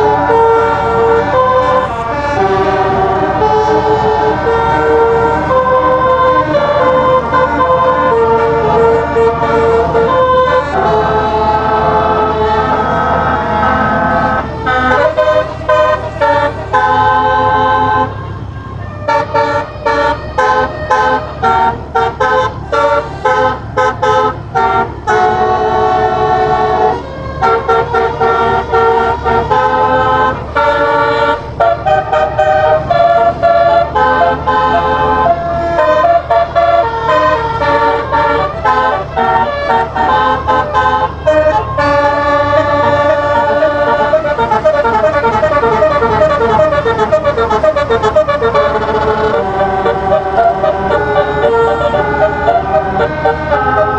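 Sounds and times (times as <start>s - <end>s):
multi-trumpet air horn melody: 0.0s - 53.9s.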